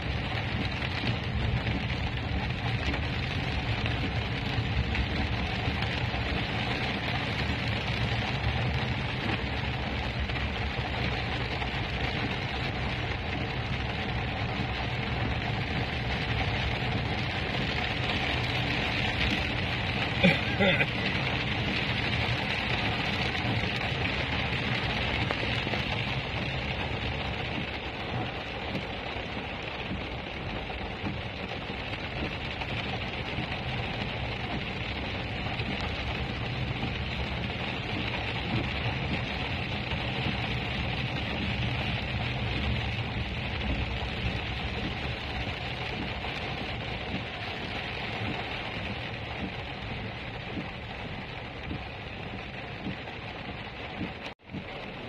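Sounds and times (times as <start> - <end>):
car and road rumble: 0.0 - 55.0
heavy rain on a car roof: 0.0 - 55.0.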